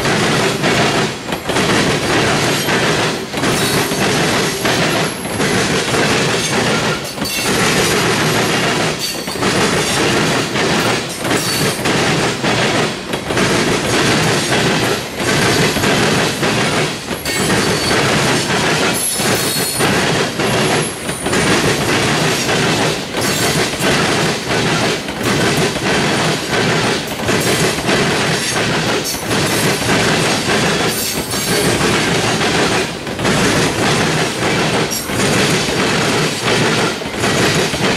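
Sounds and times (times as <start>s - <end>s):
freight train rumbling past: 0.0s - 37.9s.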